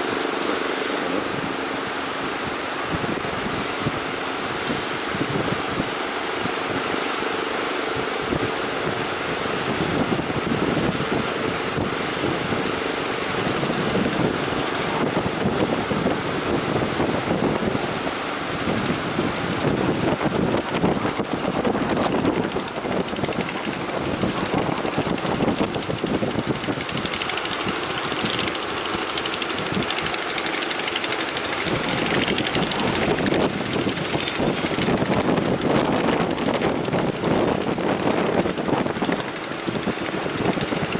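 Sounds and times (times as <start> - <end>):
outboard engine running: 0.0 - 40.9
strong wind: 0.0 - 40.9.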